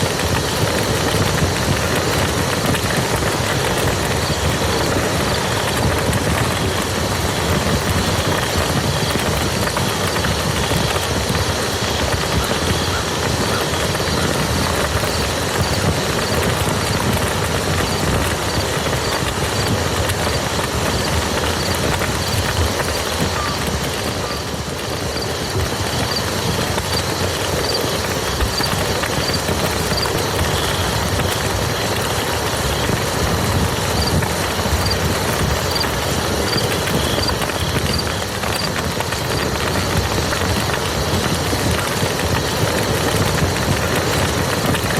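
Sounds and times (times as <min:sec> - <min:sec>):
rain falling on mud: 0:00.0 - 0:44.9.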